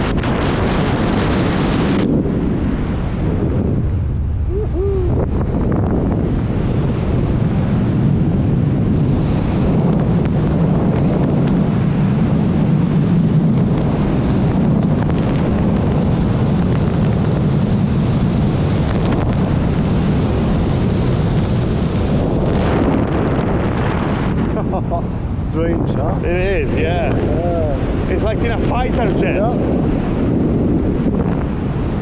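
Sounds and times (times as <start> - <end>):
wind roaring over microphone: 0.0 - 32.0.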